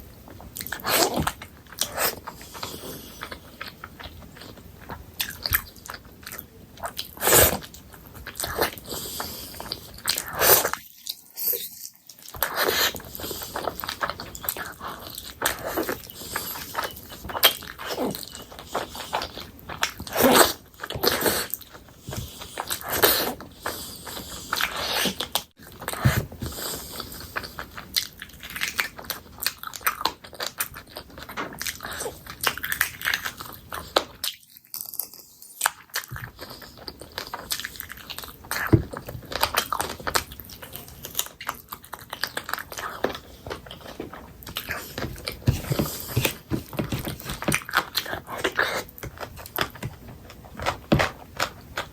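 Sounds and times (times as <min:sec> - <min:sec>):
chewing with wet smacking: 0:00.0 - 0:51.9.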